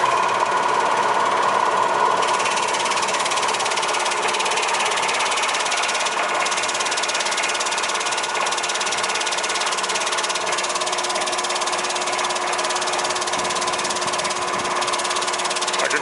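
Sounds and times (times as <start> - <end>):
meat slicer clattering: 0.0 - 16.0.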